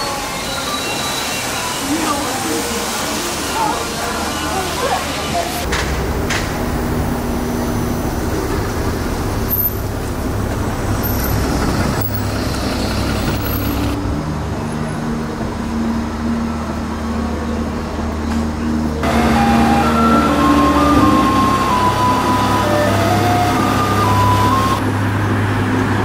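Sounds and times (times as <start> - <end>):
rumble of vehicle engines and tyres: 2.7 - 26.0
engine hums: 2.8 - 26.0.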